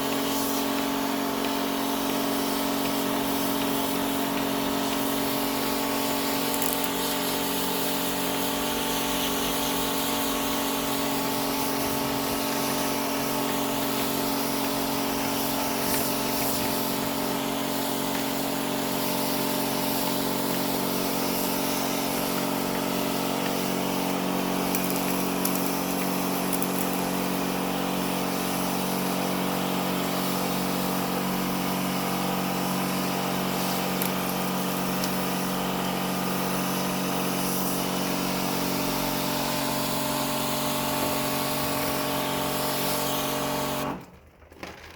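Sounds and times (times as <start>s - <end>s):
small electric motor running: 0.0s - 44.0s.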